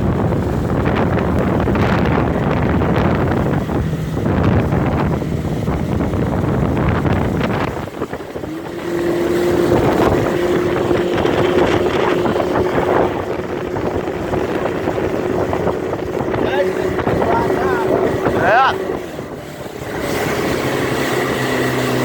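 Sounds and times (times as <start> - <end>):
motorboat engine running: 0.0 - 22.0
wind buffeting microphone: 0.0 - 22.0.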